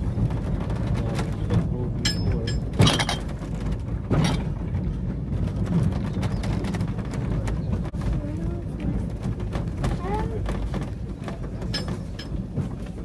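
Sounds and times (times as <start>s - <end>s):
train rumbling slowly: 0.0s - 13.0s
metallic clanks and knocks: 0.3s - 7.9s, 9.2s - 13.0s.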